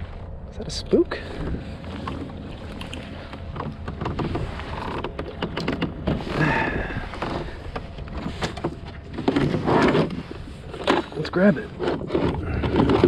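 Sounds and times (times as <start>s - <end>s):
wind rumble on microphone: 0.0s - 10.8s
kayak gear knocks and clicks: 1.8s - 13.0s.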